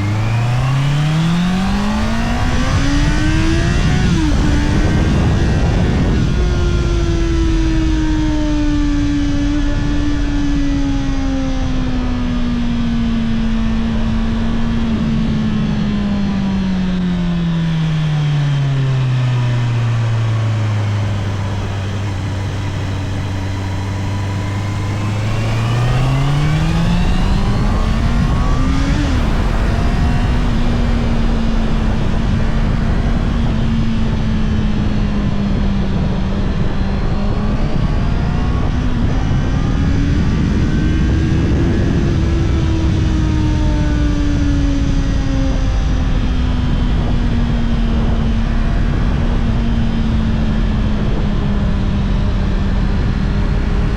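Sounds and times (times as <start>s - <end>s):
motorcycle engine: 0.0s - 53.9s
wind noise: 0.0s - 53.9s.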